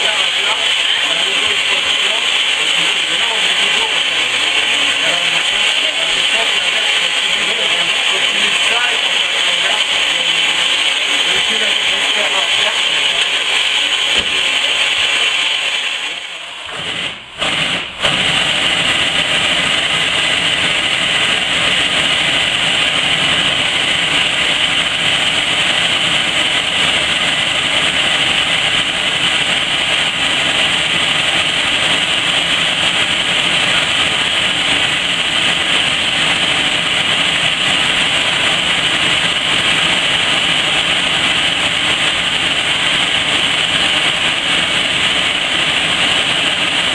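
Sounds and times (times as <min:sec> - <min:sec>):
locomotive venting steam hiss: 0:00.0 - 0:46.9.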